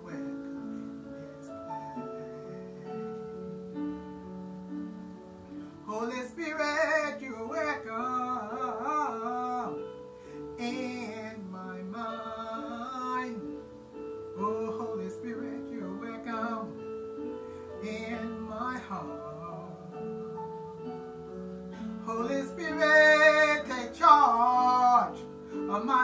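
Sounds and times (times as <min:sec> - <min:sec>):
instrumental accompaniment: 0:00.0 - 0:26.0.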